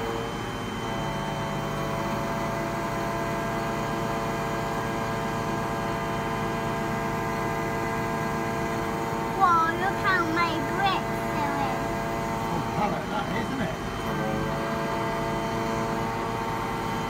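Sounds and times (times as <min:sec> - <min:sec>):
diesel engine running: 0:00.0 - 0:17.0
hydraulic hum: 0:00.0 - 0:17.0.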